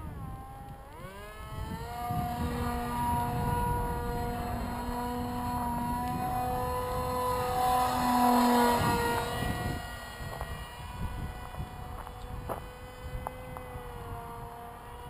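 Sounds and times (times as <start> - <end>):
model jet propeller whine: 0.0 - 15.0
wind rumble on microphone: 0.0 - 15.0.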